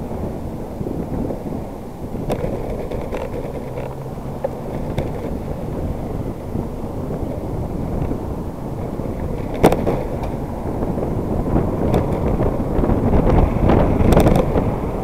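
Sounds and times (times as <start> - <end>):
bicycle rumbling over pavement: 0.0 - 15.0
wind buffeting microphone: 0.0 - 15.0
handlebar clicks and rattles: 2.2 - 14.8.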